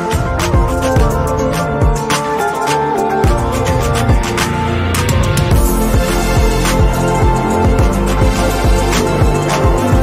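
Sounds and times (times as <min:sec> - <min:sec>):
sharp percussion: 0:00.0 - 0:10.0.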